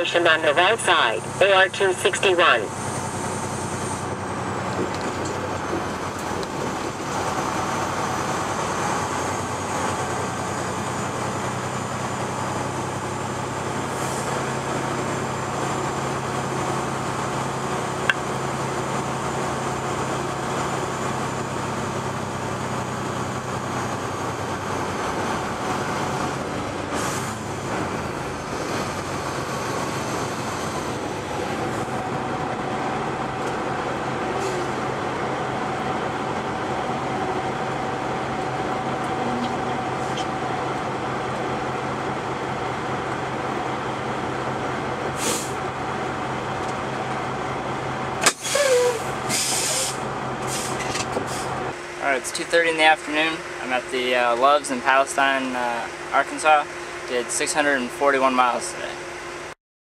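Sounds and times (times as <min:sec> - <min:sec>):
diesel engine drone in cab: 0:00.0 - 0:59.6.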